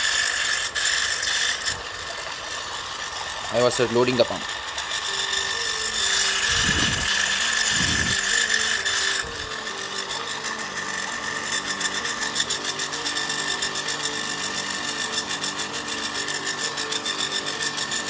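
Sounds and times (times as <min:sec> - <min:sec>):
electric water pump motor whine: 0:00.0 - 0:18.0
fast regular pulsing: 0:00.0 - 0:18.0.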